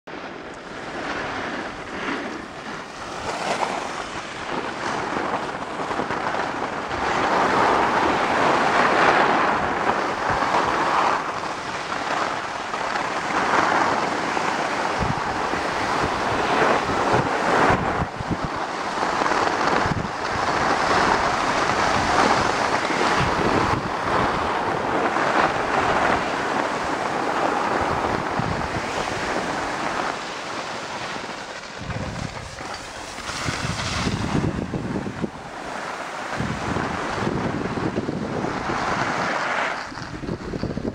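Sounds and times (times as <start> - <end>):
skis scraping over snow: 0.1 - 40.9
wind on microphone: 0.1 - 40.9.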